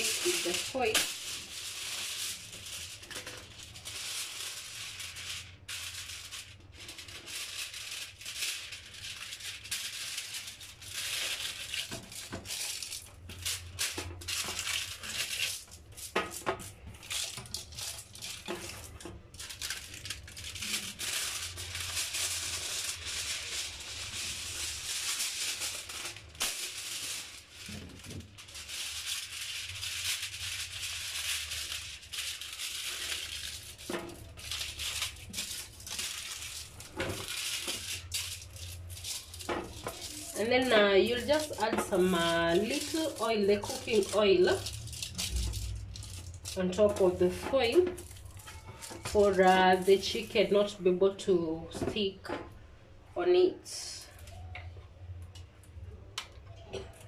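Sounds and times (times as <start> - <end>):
aluminium foil crinkling: 0.0 - 52.2, 53.7 - 57.0.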